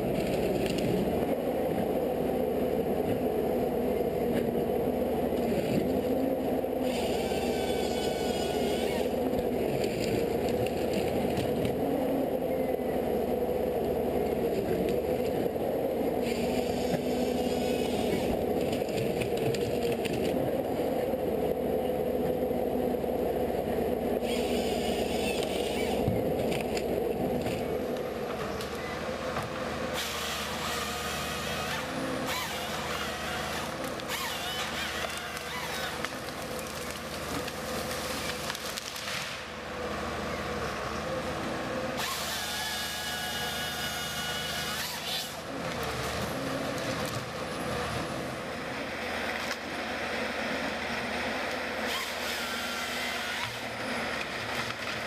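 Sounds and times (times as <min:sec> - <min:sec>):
machine running steadily: 0:00.0 - 0:55.0.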